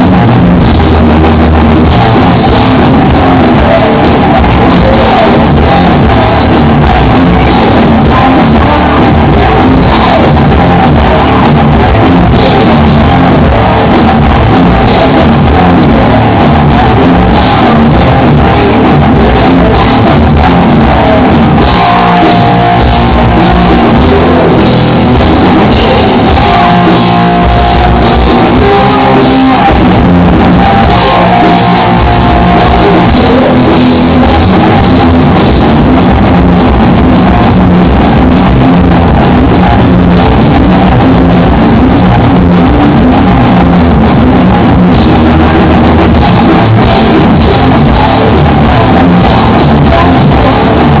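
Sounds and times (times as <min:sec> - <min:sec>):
drum kit: 0:00.0 - 0:51.0
guitar: 0:00.0 - 0:51.0
rock band playing: 0:00.0 - 0:51.0.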